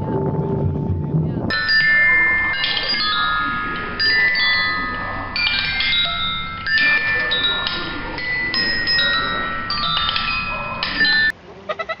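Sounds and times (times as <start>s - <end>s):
glockenspiel bars ringing: 1.5s - 11.4s.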